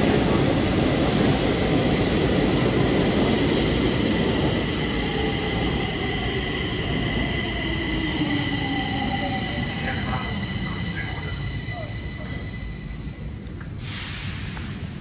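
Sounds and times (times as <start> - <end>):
metro train rumbling: 0.0 - 15.0.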